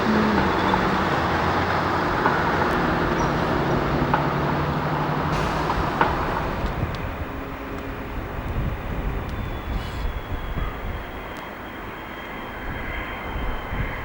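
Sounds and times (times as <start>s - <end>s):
diesel train engine running: 0.0s - 12.0s.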